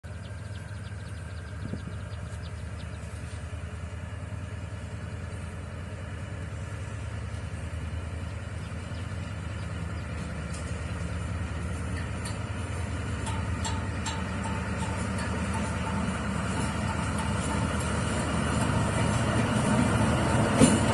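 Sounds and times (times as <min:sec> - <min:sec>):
diesel locomotive engine rumbling: 0:00.0 - 0:20.9.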